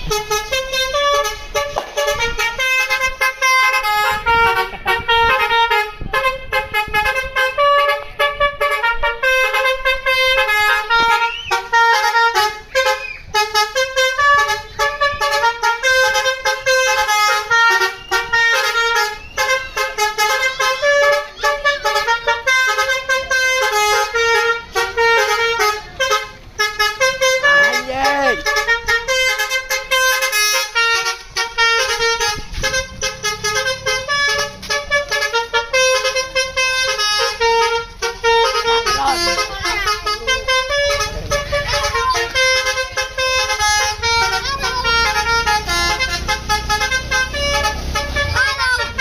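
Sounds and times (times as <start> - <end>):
bus horn playing melody: 0.0 - 49.0.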